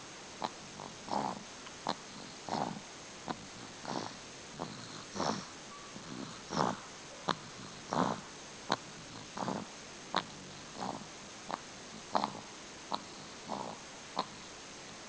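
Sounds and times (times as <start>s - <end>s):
snoring breaths: 0.4s - 14.6s.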